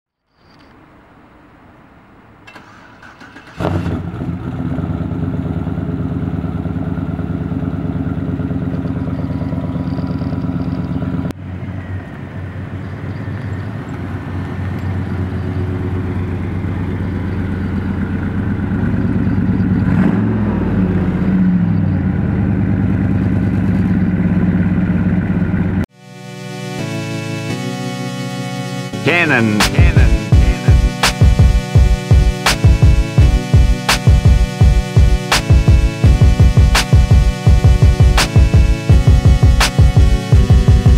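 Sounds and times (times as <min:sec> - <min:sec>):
car engine idling and revving: 0:02.2 - 0:25.9, 0:29.9 - 0:40.9.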